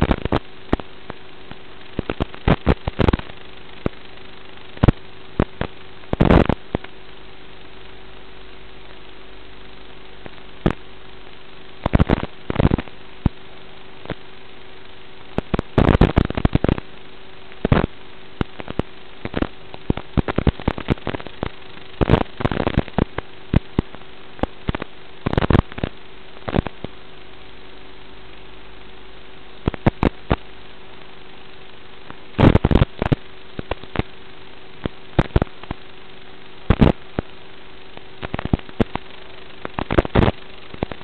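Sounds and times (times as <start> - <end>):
crackling bursts: 0.0 - 41.0
low hum: 0.0 - 41.0
radio static hiss: 0.0 - 41.0.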